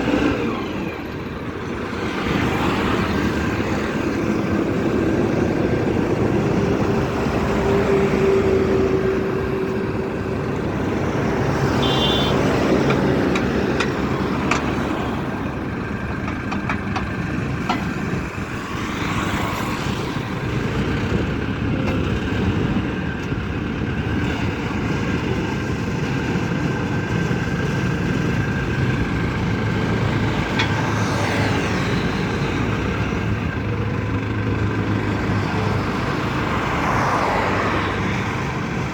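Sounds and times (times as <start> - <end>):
pile driver engine running: 0.0 - 38.9.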